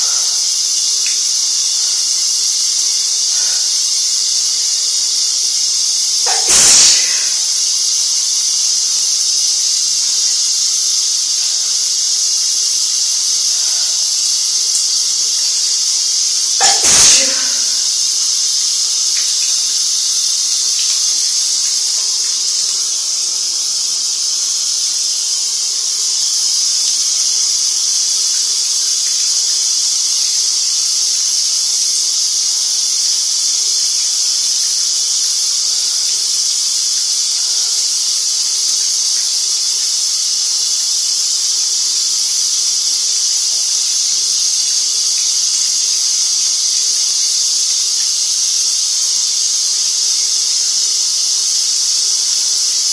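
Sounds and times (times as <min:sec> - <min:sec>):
shower water spray hissing: 0:00.0 - 0:52.9.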